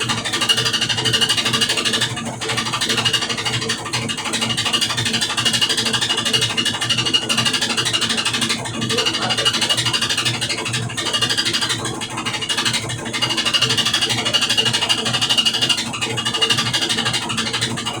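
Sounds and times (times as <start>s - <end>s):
loud rattle: 0.0s - 18.0s
washing machine spinning: 0.0s - 18.0s.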